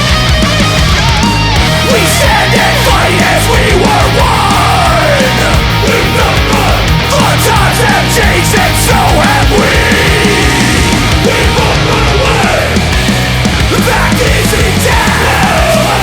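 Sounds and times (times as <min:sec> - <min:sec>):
punk band playing: 0:00.0 - 0:16.0
shouted vocals: 0:01.6 - 0:16.0.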